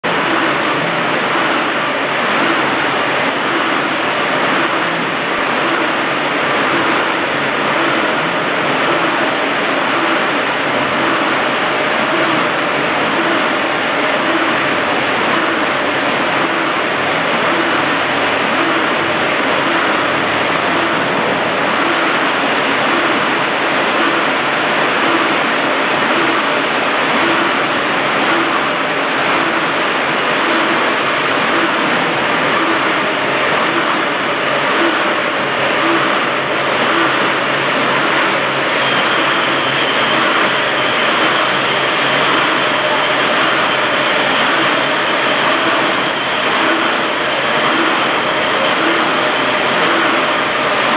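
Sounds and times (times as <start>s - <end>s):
welding line machine noise: 0.0s - 50.9s
faint regular machine beat: 0.1s - 50.9s.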